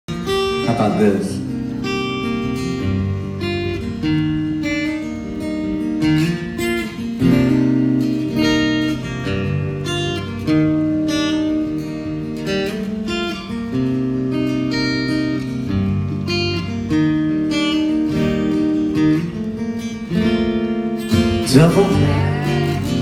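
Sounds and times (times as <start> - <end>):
strummed acoustic guitar chords: 0.1 - 23.0.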